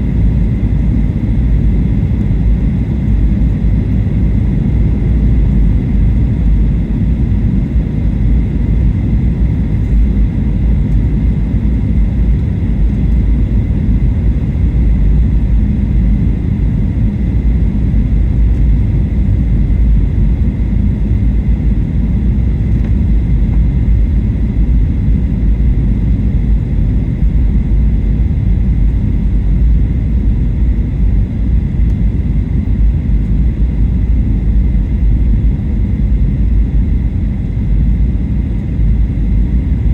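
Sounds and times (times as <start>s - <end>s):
airplane cabin engine rumble: 0.0s - 39.9s
faint steady whine: 0.0s - 39.9s.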